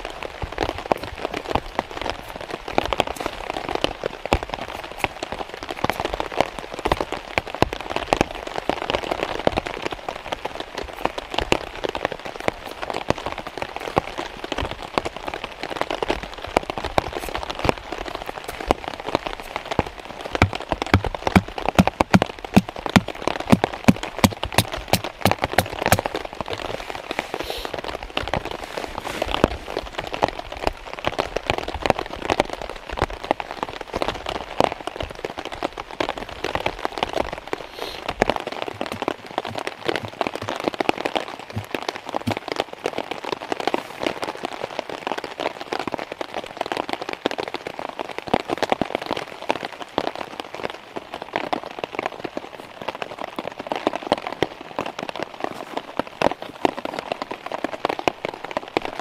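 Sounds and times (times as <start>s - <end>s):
heavy rain on a tarp: 0.0s - 59.0s.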